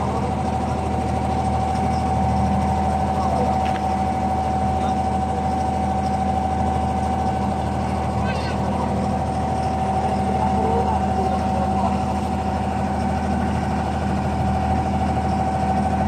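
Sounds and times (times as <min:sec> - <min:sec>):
boat engine droning with whine: 0:00.0 - 0:16.0.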